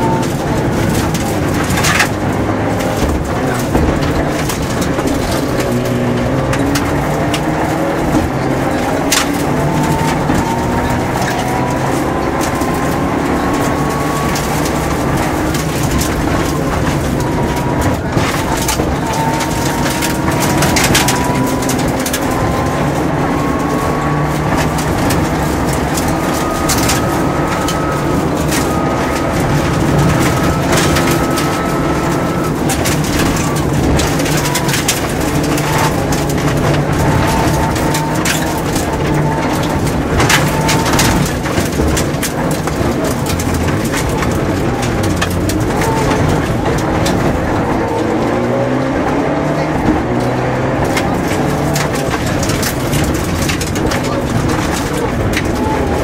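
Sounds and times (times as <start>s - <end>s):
car engine accelerating: 0.0s - 56.0s
gravel rumbling under tyres: 0.0s - 56.0s
stones hitting car: 0.0s - 56.0s.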